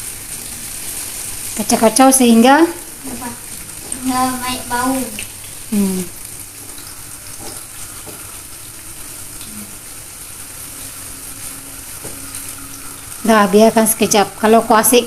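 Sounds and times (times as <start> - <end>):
aromatics sizzling in hot oil: 0.0 - 15.0.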